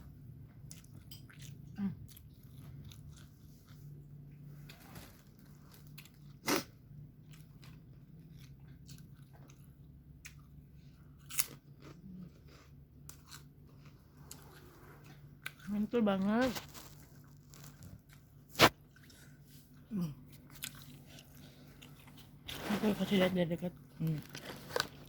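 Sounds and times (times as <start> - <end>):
chewing and crunching food: 0.0 - 25.0
steady low hum: 0.0 - 25.0.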